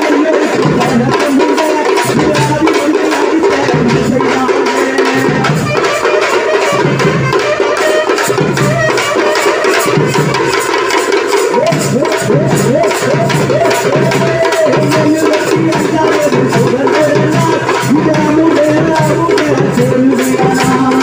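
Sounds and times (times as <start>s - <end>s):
barrel drum: 0.0s - 21.0s
frame drums beaten with sticks: 0.0s - 21.0s.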